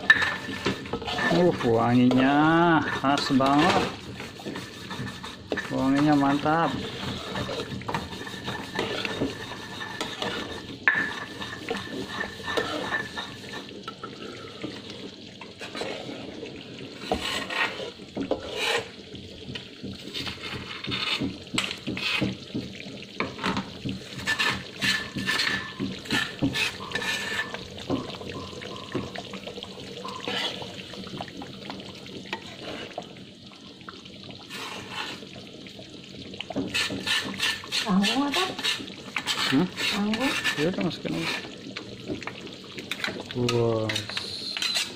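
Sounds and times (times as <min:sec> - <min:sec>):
metal utensil scraping a pan: 0:00.0 - 0:19.0, 0:20.0 - 0:22.4, 0:23.2 - 0:31.2, 0:32.3 - 0:33.0, 0:34.5 - 0:35.3, 0:36.6 - 0:41.6, 0:42.8 - 0:44.9
gravy simmering: 0:00.0 - 0:44.9.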